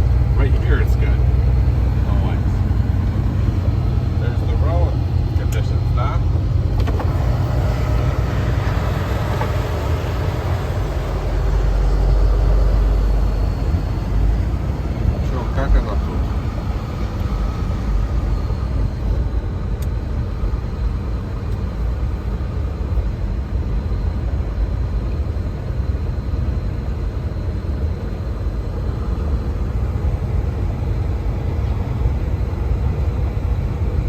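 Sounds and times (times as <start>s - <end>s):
truck road and engine noise: 0.0s - 34.0s.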